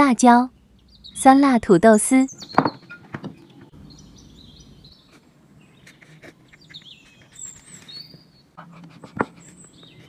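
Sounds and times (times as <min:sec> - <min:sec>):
small birds chirping: 0:00.5 - 0:10.0.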